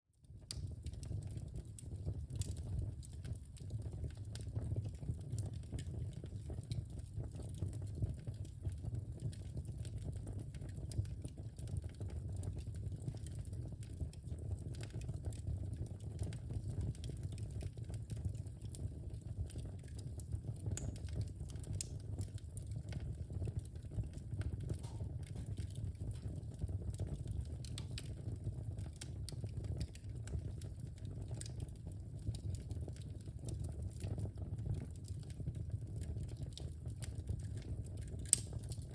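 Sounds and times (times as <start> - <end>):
wood fire crackling: 0.2 - 38.9.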